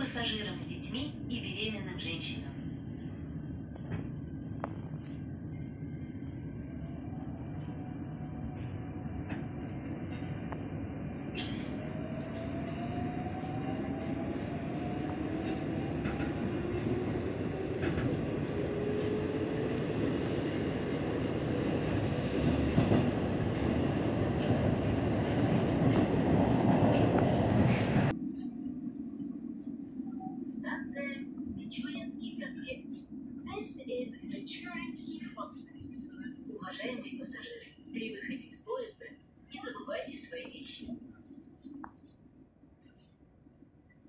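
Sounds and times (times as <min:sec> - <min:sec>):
train wheel and running noise: 0:00.0 - 0:42.2.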